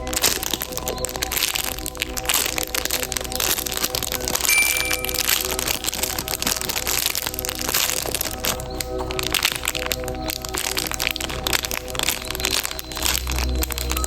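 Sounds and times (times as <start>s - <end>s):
background music with steady beat: 0.0s - 14.0s
plastic packaging crinkling: 0.1s - 14.0s.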